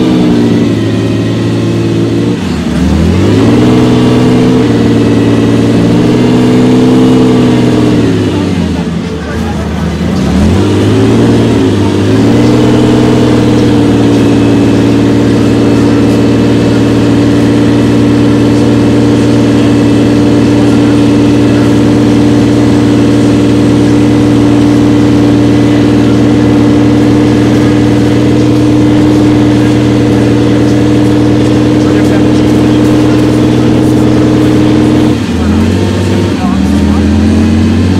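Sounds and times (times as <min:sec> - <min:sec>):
car engine revving and idling: 0:00.0 - 0:37.9.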